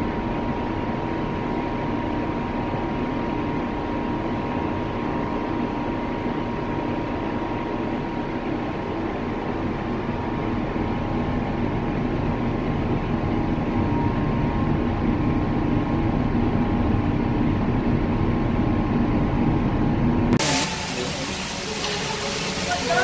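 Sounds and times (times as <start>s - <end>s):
constant low hum: 0.0s - 22.6s
ship engine drone: 0.0s - 23.0s.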